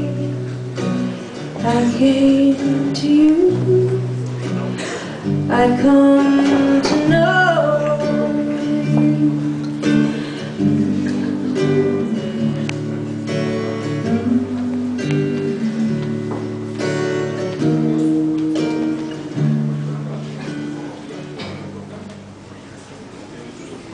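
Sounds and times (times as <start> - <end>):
acoustic guitar chords: 0.0 - 22.8.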